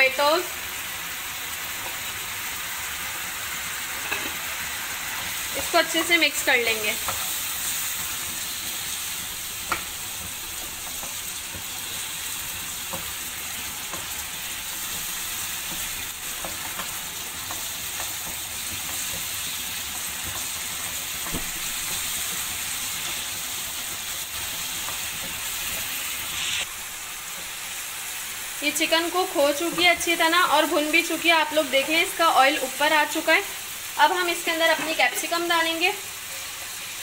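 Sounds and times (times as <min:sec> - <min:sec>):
chicken sizzling in hot oil: 0:00.0 - 0:37.0.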